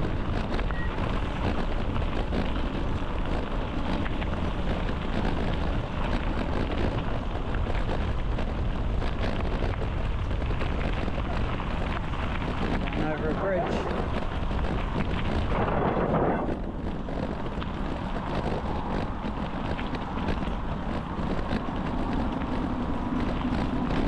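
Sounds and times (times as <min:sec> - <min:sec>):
wheels ticking and knocking: 0:00.0 - 0:24.0
wind noise on microphone: 0:00.0 - 0:24.0.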